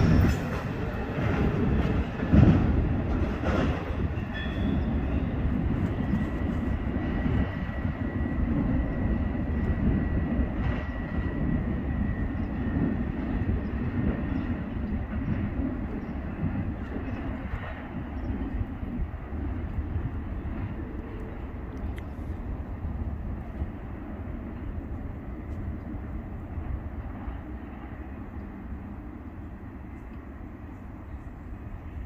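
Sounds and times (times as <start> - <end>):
freight train cars rumbling: 0.0 - 32.0.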